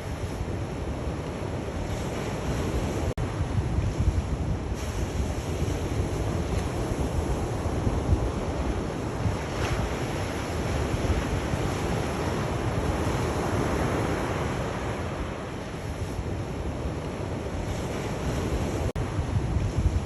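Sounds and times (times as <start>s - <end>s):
waves breaking: 0.0s - 20.0s
wind on microphone: 0.0s - 20.0s.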